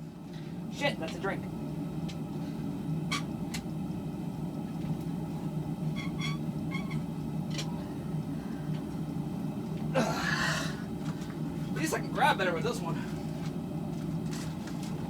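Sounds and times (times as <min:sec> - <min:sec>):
forge burner roaring: 0:00.0 - 0:15.0.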